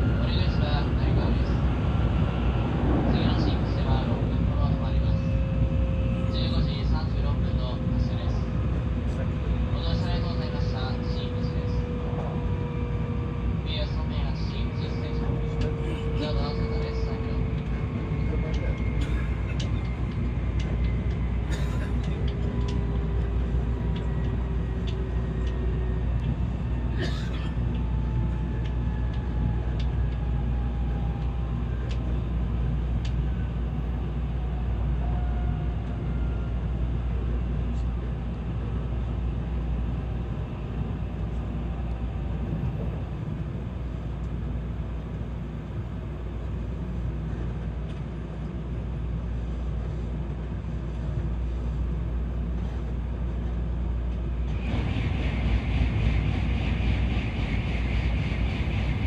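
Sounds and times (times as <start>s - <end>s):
train rumble from inside: 0.0s - 59.0s.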